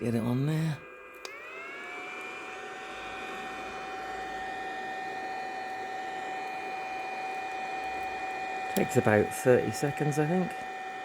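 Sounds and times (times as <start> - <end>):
induction heater high whine: 0.0 - 11.0.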